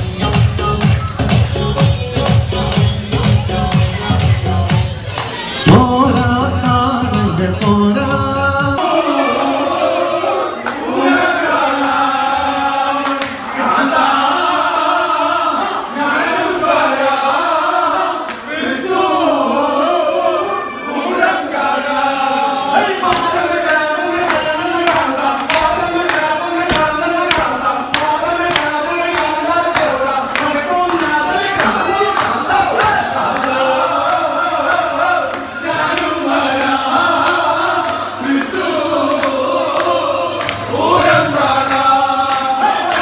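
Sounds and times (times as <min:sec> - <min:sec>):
men singing in unison: 0:05.6 - 0:20.3, 0:21.2 - 0:43.0.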